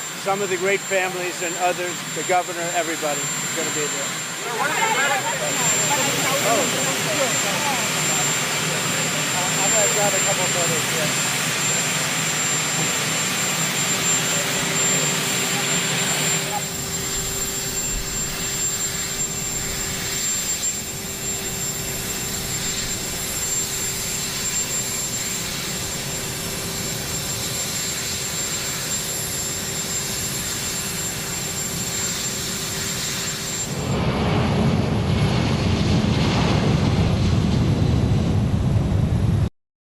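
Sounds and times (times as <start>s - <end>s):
aircraft turbine engines whining: 0.0s - 39.5s.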